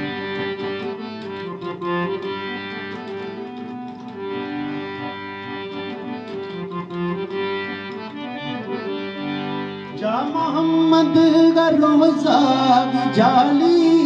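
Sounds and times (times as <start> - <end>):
harmonium melody: 0.0 - 14.0.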